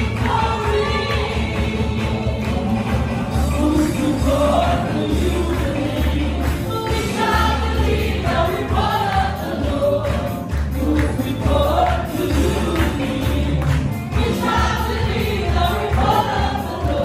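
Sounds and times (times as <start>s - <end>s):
voices singing together: 0.0s - 17.0s.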